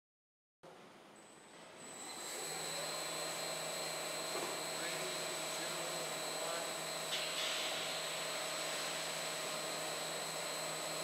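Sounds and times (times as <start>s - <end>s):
constant machine whine: 1.2s - 11.0s
blender motor drone: 1.9s - 11.0s.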